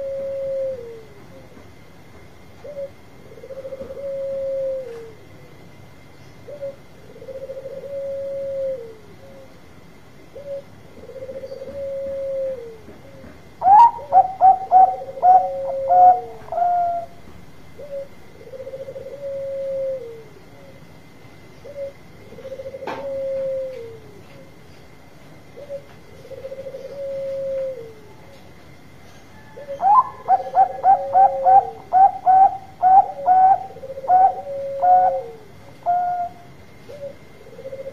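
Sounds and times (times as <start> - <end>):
dove cooing: 0.0 - 1.6, 2.6 - 5.3, 6.4 - 9.6, 10.3 - 20.8, 21.6 - 24.6, 25.4 - 28.4, 29.4 - 37.9
faint steady whine: 0.0 - 37.9.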